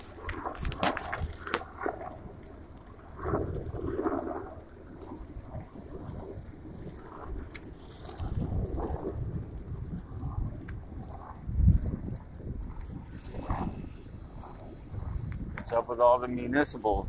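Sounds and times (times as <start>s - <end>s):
bicycle rattling and clicking: 0.0s - 17.0s
low rumble: 0.0s - 17.0s.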